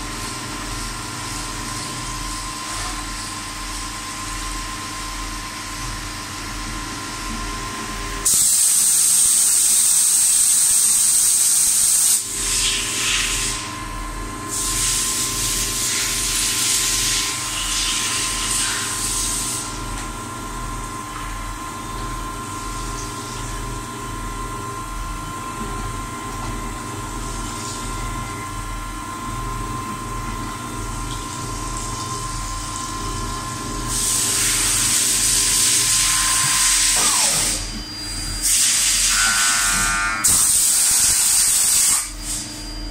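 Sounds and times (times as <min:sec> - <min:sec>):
milling machine hum: 0:00.0 - 0:08.3, 0:09.0 - 0:42.9.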